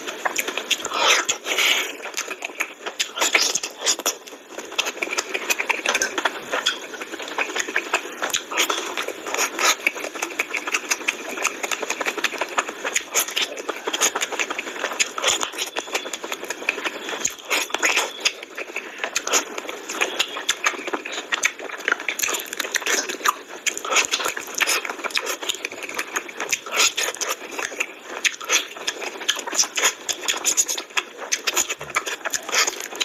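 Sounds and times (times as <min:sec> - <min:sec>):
man chewing and lip-smacking: 0:00.0 - 0:33.0.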